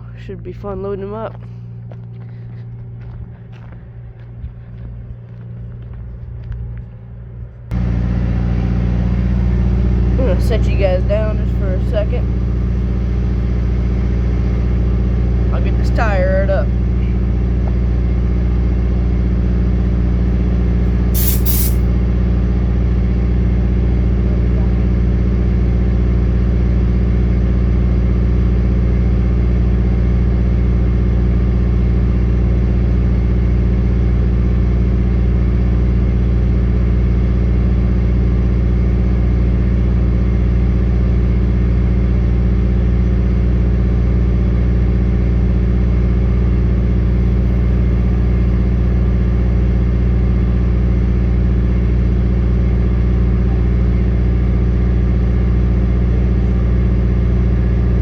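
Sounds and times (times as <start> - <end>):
diesel engine idling: 7.7 - 56.6.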